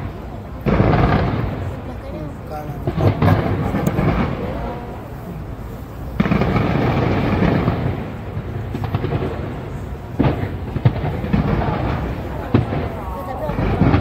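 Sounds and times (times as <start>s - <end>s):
fireworks rumble and crackle: 0.0s - 14.0s
sharp firework bangs: 0.6s - 1.9s, 2.6s - 5.0s, 6.1s - 14.0s.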